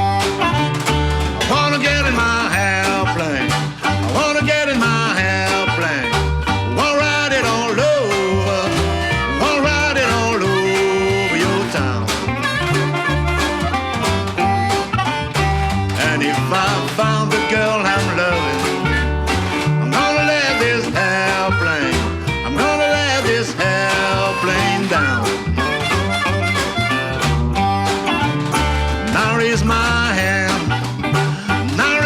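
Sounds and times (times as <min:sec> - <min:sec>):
double bass walking line: 0:00.0 - 0:32.0
harmonica or voice sliding: 0:00.0 - 0:32.0
resonator guitar: 0:00.0 - 0:32.0
resonator ukulele: 0:00.0 - 0:32.0.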